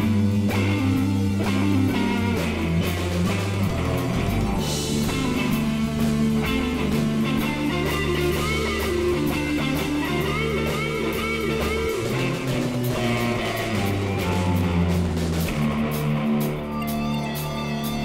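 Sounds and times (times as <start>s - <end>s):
bass notes: 0.0s - 18.0s
drum cymbals: 0.0s - 18.0s
electric guitar: 0.0s - 18.0s.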